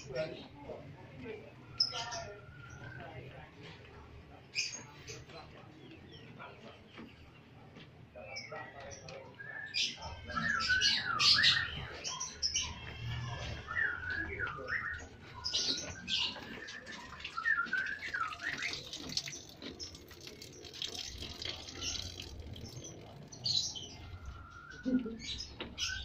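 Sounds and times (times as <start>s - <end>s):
lovebirds chirping and chattering: 0.0s - 26.0s.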